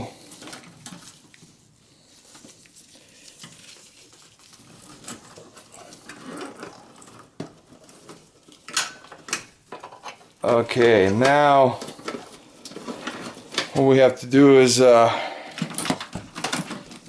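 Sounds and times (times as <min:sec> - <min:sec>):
cables rustling: 0:00.0 - 0:17.0.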